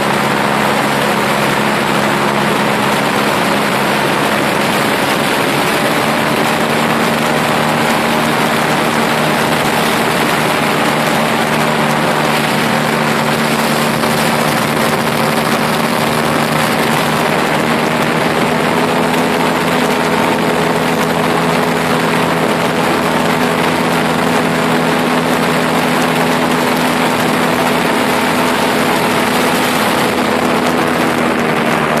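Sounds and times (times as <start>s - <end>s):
light aircraft engine and propeller: 0.0s - 32.0s
wind rushing over microphone: 0.0s - 32.0s.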